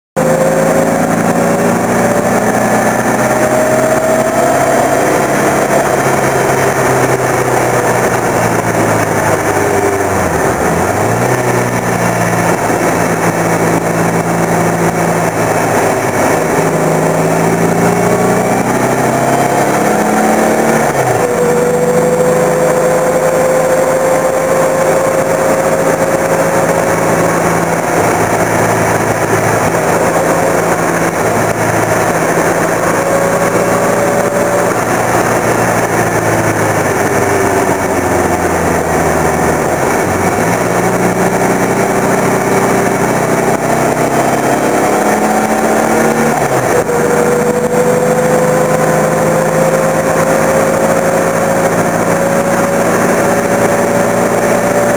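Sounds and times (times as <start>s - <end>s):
car engine revving: 0.2s - 54.9s
rush of noise: 0.2s - 54.9s.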